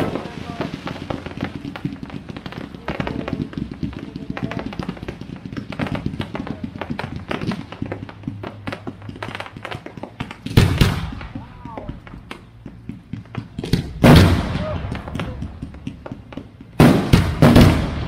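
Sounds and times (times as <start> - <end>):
crackling firework pops: 0.0 - 18.0.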